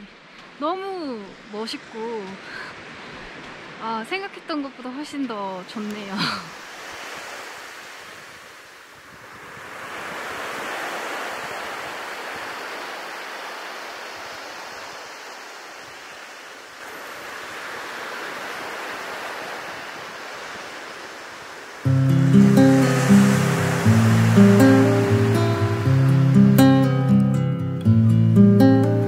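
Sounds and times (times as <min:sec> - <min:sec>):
sea waves washing onto beach: 0:00.0 - 0:29.0.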